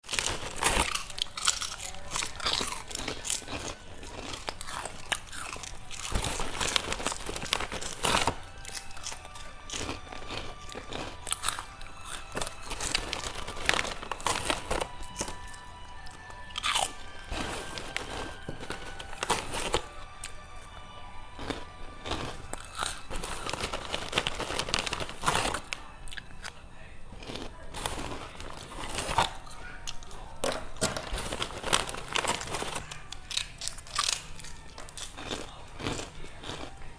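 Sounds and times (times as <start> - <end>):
crunchy eating and chewing: 0.0 - 36.9.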